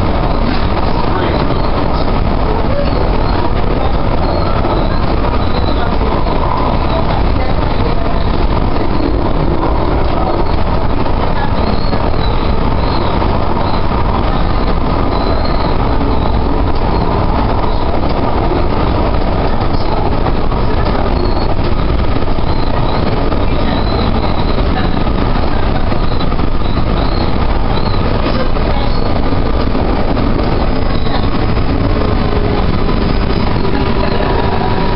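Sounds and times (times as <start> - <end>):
train wheels rumbling on track: 0.0 - 34.9.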